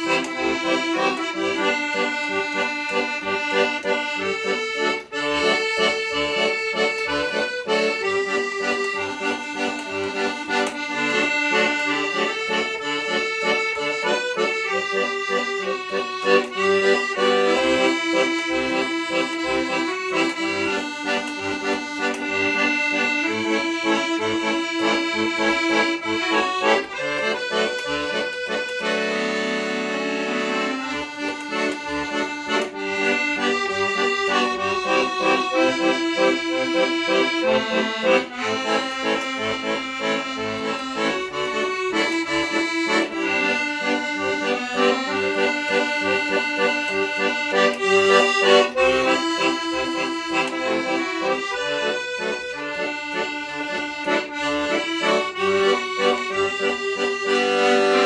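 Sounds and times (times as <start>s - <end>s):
accordion playing a tune: 0.0s - 58.0s.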